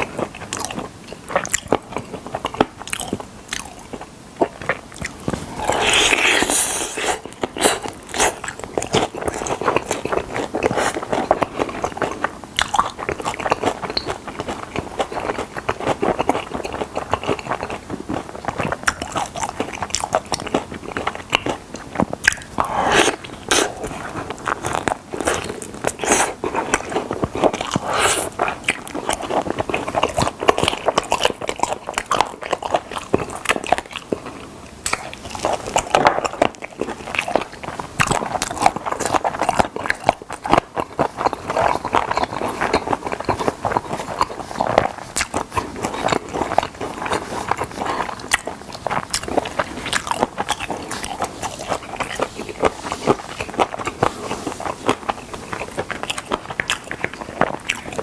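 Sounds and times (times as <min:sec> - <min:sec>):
crunching fried chicken: 0:00.0 - 0:58.0
wet chewing: 0:00.0 - 0:58.0.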